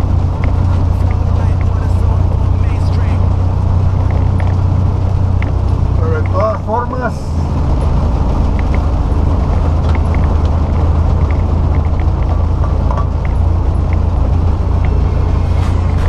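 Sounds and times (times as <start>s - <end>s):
truck engine drone: 0.0s - 16.0s
tyre and road noise: 0.0s - 16.0s.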